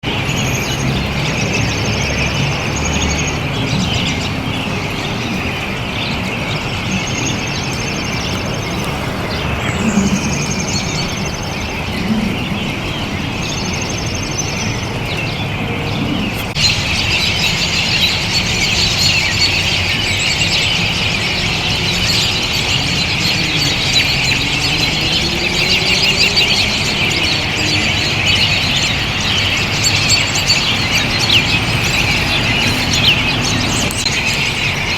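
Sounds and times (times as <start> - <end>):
robins calling: 0.1 - 34.9.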